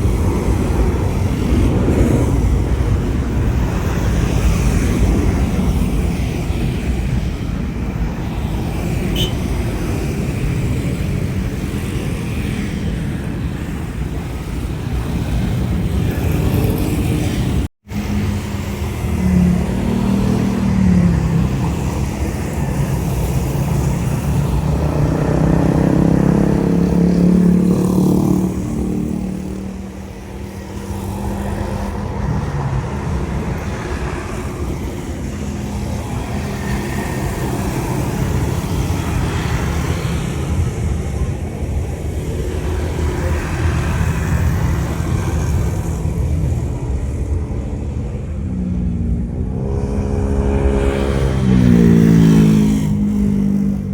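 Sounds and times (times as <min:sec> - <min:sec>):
jet engines rumbling: 0:00.0 - 0:27.7, 0:28.3 - 0:51.6.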